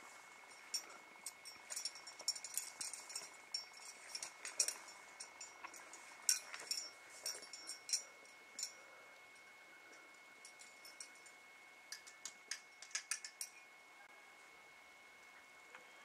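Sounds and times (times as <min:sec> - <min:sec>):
climbing hardware clinking: 0:00.5 - 0:13.7.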